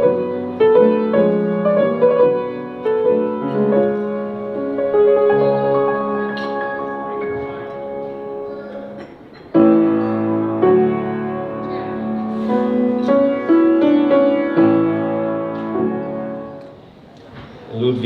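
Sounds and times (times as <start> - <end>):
slow piano piece: 0.0 - 18.0.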